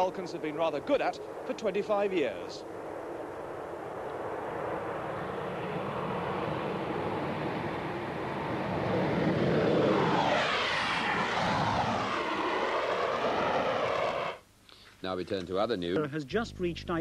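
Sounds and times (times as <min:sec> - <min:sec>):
jet bomber taking off: 0:00.0 - 0:14.4.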